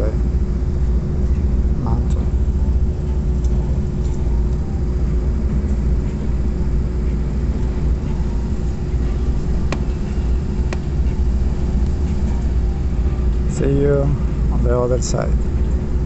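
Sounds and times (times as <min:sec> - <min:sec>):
faint steady hum: 0:00.0 - 0:16.0
train rumbling in tunnel: 0:00.0 - 0:16.0.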